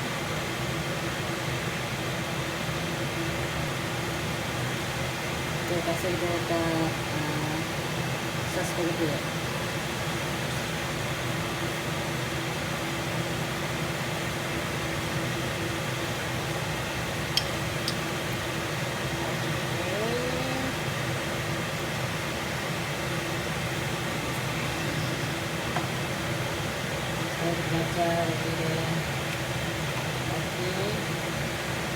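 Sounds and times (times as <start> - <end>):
kitchen exhaust fan humming: 0.0 - 31.9.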